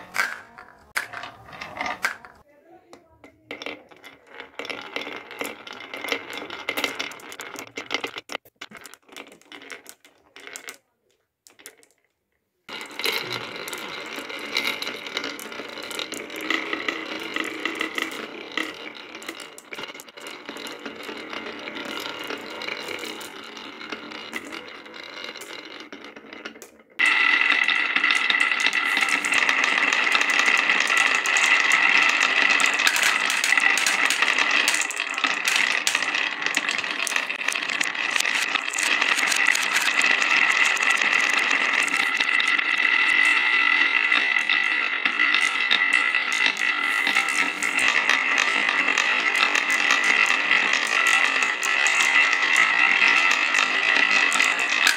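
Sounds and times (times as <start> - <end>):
marbles clicking together: 0.0 - 12.1, 12.7 - 54.9
marbles rolling on wooden tracks: 0.0 - 54.9.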